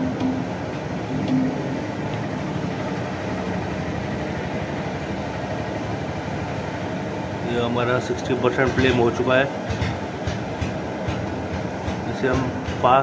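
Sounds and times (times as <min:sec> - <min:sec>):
gas burner rushing: 0:00.0 - 0:13.0.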